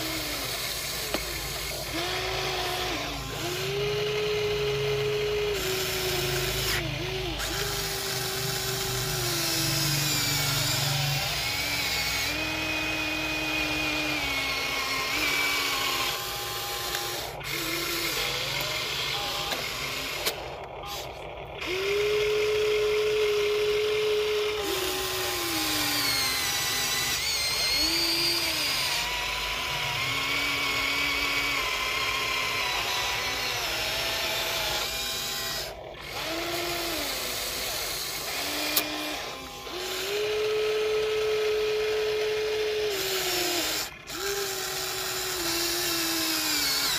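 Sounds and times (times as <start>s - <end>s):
electric gear motors whining: 0.0s - 46.9s.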